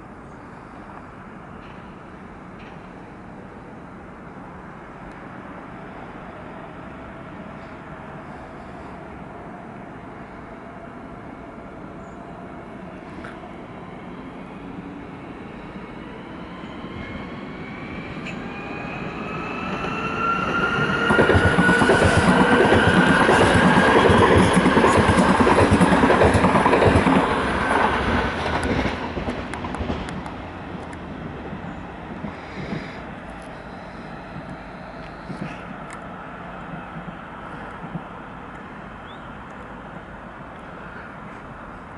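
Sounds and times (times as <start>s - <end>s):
train rumble and wheel clatter: 0.0s - 41.9s.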